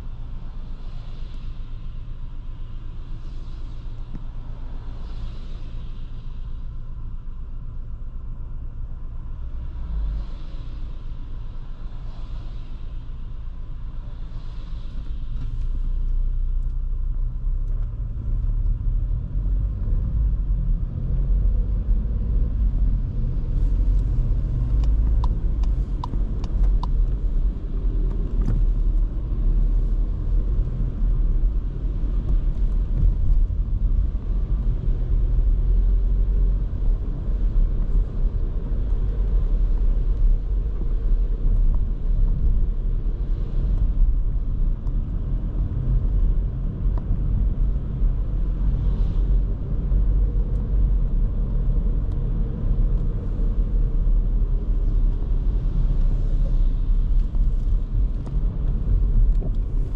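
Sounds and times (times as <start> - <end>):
in-cabin road and engine rumble: 0.0 - 59.9.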